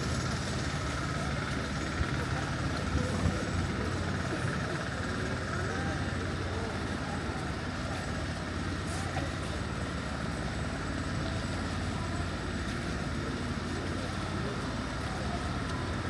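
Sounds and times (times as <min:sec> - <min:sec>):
faint voices: 0:00.0 - 0:16.0
traffic running: 0:00.0 - 0:16.0.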